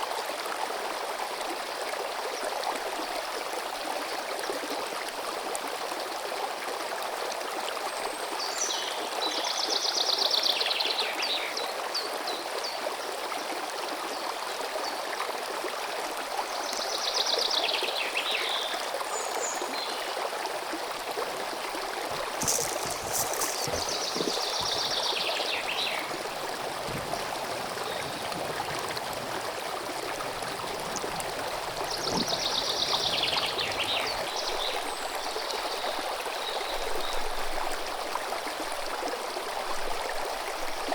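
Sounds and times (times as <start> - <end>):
small stream running: 0.0 - 40.9.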